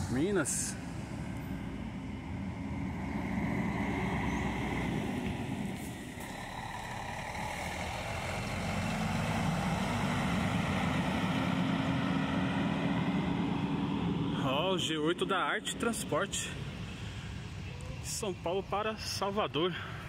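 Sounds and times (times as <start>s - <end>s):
diesel coach engine pulling away: 0.0s - 17.8s.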